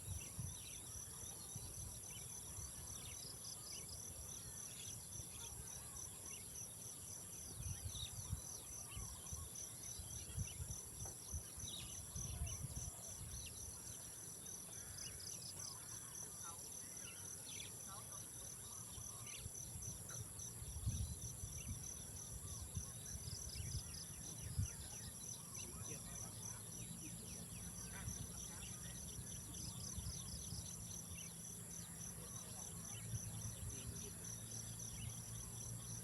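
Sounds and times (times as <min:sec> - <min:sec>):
insect chirps: 0:00.0 - 0:36.0.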